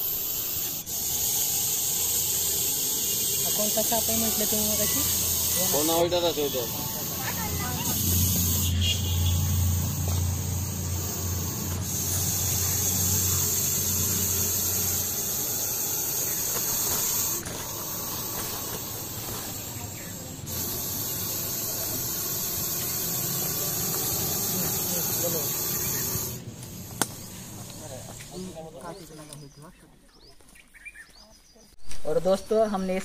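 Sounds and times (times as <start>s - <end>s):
snake hissing: 0.0s - 28.7s.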